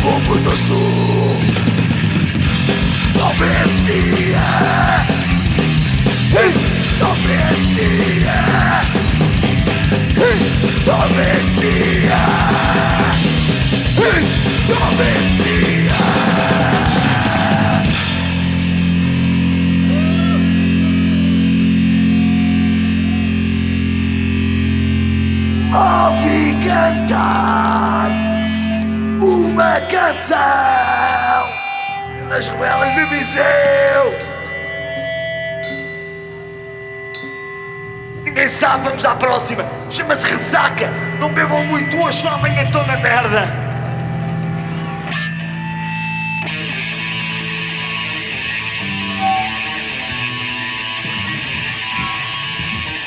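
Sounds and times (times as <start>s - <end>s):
bass guitar: 0.0s - 53.0s
electric guitars: 0.0s - 53.0s
rock drums: 0.0s - 53.0s.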